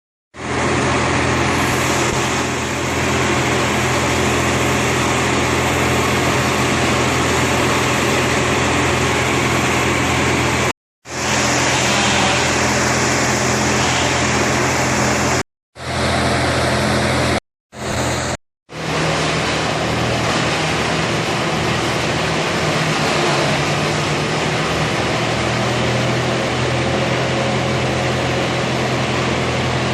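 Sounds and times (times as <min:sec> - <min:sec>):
heavy machinery engine running: 0:00.4 - 0:29.9.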